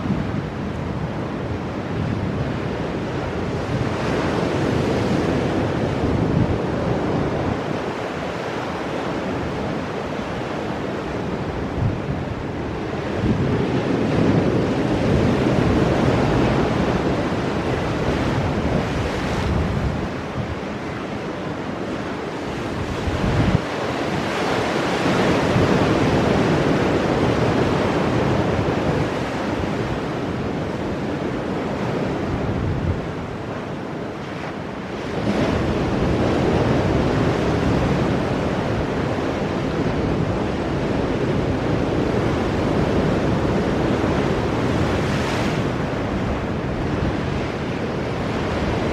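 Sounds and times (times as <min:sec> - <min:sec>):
ocean waves breaking on rocks: 0:00.0 - 0:48.9
wind buffeting microphone: 0:00.0 - 0:48.9.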